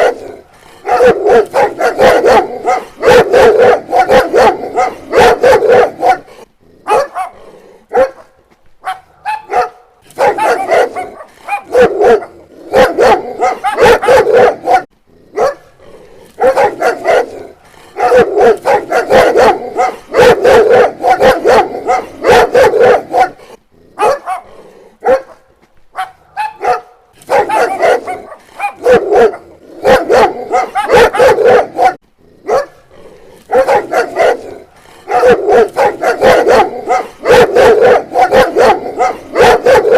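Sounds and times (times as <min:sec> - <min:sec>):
dog barking: 0:00.0 - 0:15.7, 0:16.4 - 0:32.9, 0:33.5 - 0:39.9.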